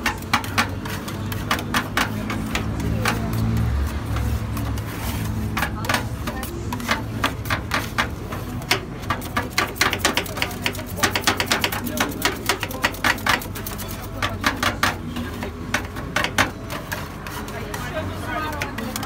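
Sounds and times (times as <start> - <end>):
metal spatulas clacking and scraping: 0.0 - 19.0.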